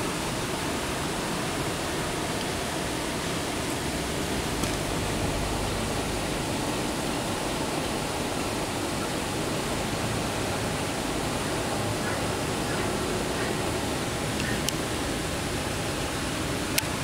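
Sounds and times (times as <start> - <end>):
waterfall spilling over rocks: 0.0 - 17.0.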